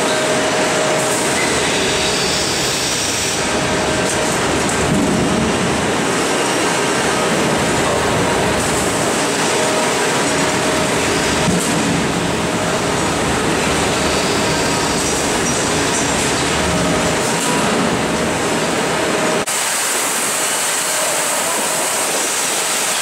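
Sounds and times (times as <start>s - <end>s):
milking machinery running: 0.0s - 23.0s.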